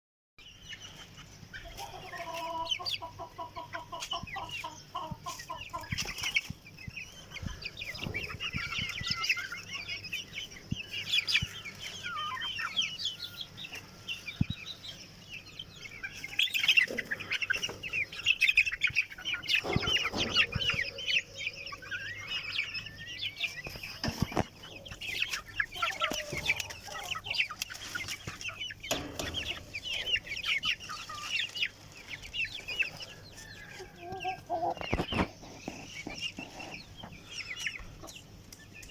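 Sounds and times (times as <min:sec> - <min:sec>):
chickens clucking: 0:00.4 - 0:38.9
high chirping calls: 0:00.4 - 0:38.9.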